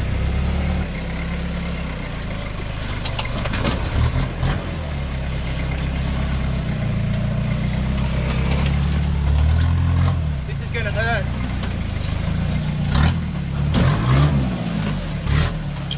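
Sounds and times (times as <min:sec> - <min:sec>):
truck engine rumbling at low revs: 0:00.0 - 0:15.9.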